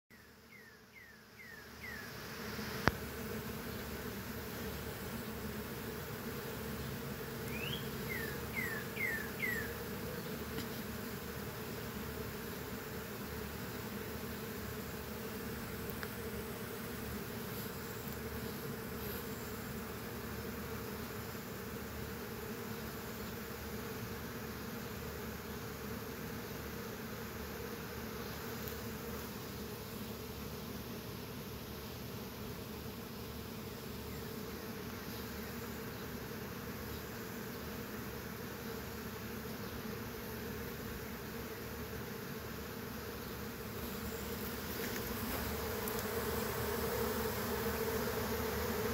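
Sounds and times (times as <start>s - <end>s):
bee swarm buzzing: 0.2s - 48.9s.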